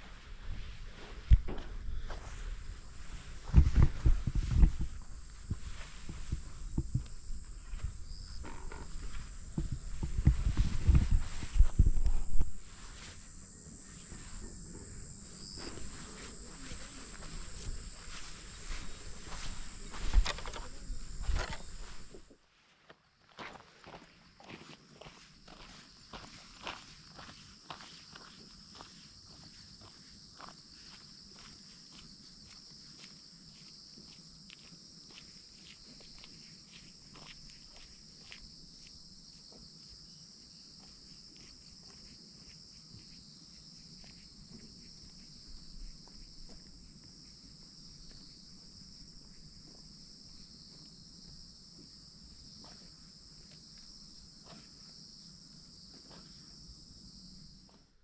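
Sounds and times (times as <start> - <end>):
insects chirping: 0.0 - 22.6, 23.3 - 58.0
footsteps crunching on trail: 0.0 - 55.0.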